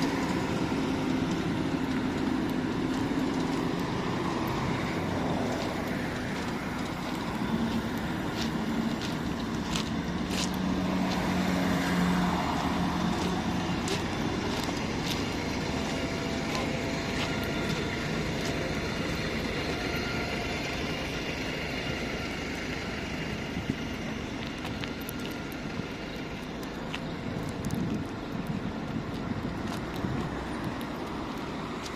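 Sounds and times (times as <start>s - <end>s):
street noise: 0.0s - 31.9s
vehicle engines running: 0.0s - 31.9s.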